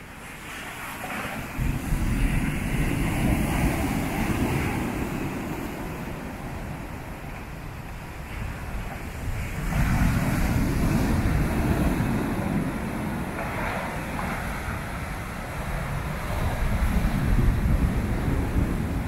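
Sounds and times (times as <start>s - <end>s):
heavy waves breaking: 0.0s - 19.0s.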